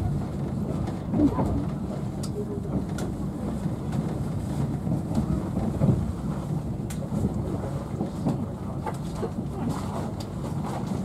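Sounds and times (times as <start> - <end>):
train coach low rumble: 0.0 - 11.0.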